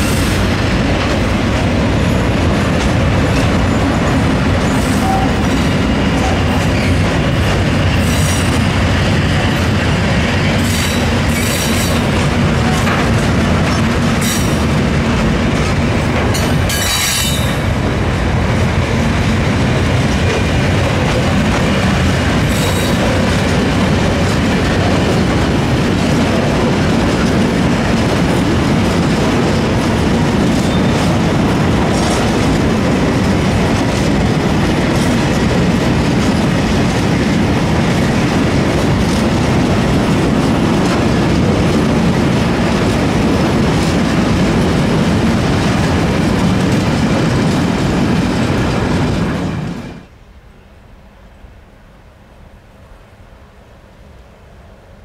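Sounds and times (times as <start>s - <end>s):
train wheels clattering over rails: 0.0s - 50.2s.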